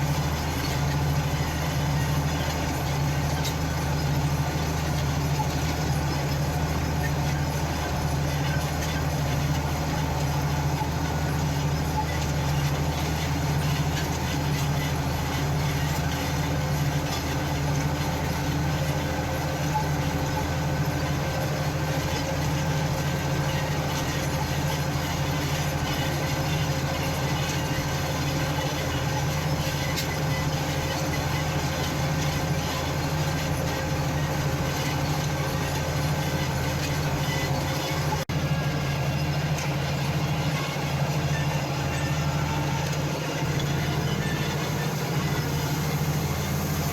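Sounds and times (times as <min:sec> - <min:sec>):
farm machinery engine running: 0:00.0 - 0:46.9.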